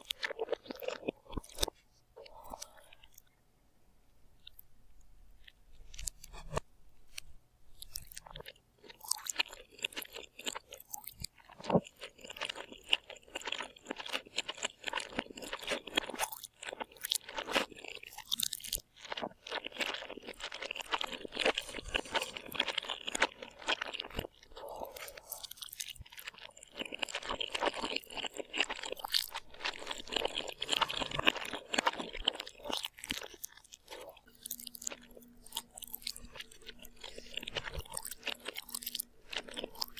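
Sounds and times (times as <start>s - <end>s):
crunchy chewing: 0.0s - 3.4s, 4.4s - 4.7s, 5.3s - 39.9s.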